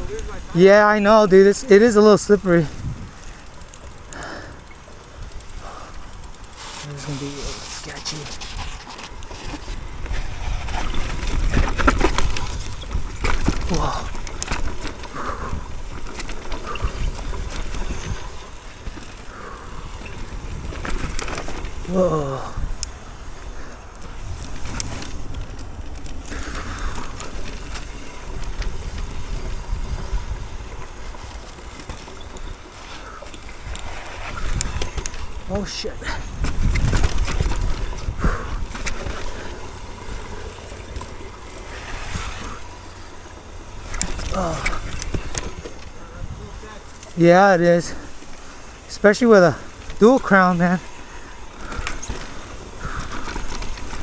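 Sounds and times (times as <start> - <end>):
bike rattling and clicking: 0.0 - 54.0
tyres rumbling over dirt and rock: 0.0 - 54.0
wind buffeting microphone: 0.0 - 54.0.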